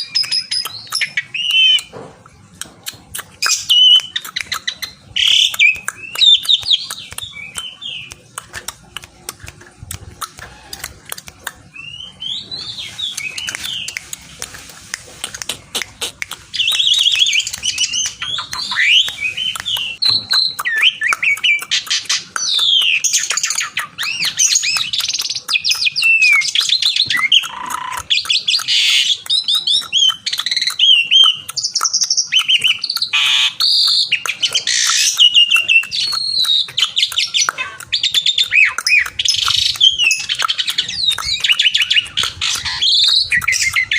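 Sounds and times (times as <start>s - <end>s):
starling whistling and chattering: 0.0s - 1.9s, 2.9s - 8.4s, 9.4s - 14.4s, 15.2s - 43.9s.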